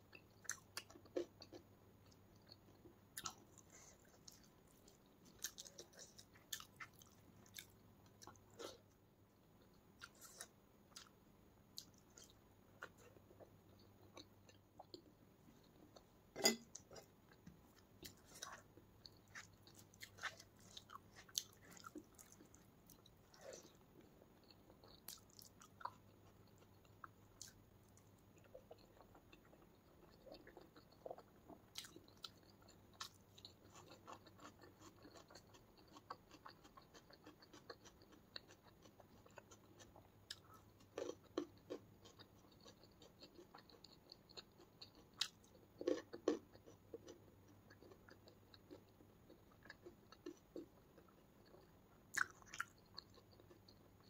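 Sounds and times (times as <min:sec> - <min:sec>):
quiet close chewing: 0:00.1 - 0:11.2, 0:11.8 - 0:54.0.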